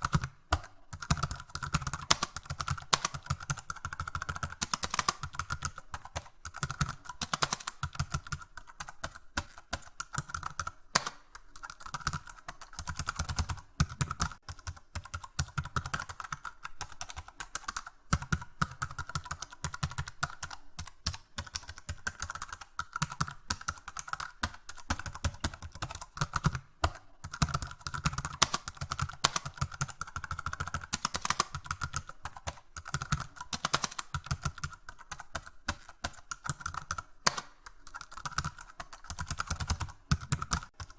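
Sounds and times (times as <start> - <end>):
computer keyboard typing: 0.0 - 40.9.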